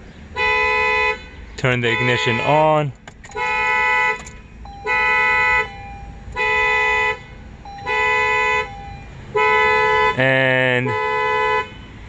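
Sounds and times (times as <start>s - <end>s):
car horn blasts: 0.3s - 12.0s.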